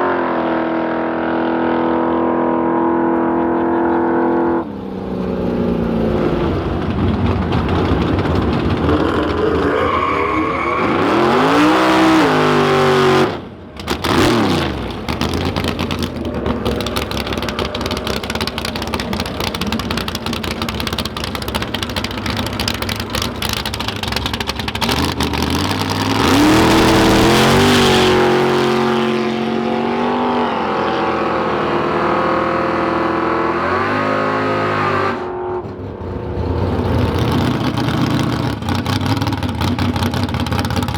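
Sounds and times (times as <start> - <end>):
drag car engines revving: 0.0 - 40.9.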